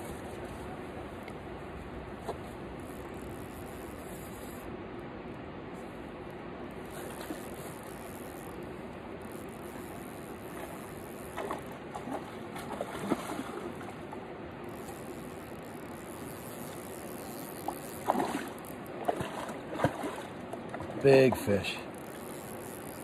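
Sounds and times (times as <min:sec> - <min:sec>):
flowing river: 0:00.0 - 0:23.0.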